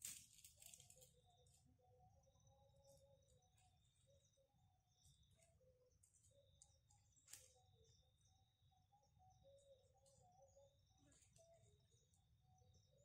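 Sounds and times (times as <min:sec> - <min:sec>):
thin steady high tone: 0:00.0 - 0:13.0.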